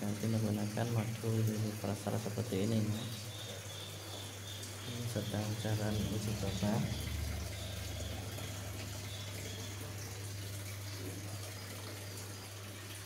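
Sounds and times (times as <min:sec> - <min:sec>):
washing machine hum: 0:00.0 - 0:13.0
water running into tub: 0:00.0 - 0:13.0.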